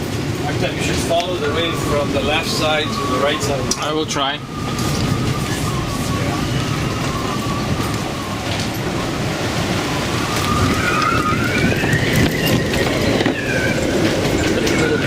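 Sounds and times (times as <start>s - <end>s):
rush of wind and sea: 0.0s - 15.0s
wind whistling through rigging: 0.0s - 15.0s.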